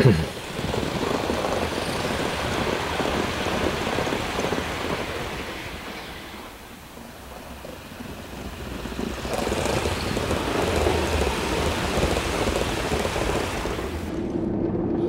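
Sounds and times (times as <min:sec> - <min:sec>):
model train wheels rumbling: 0:00.0 - 0:14.4.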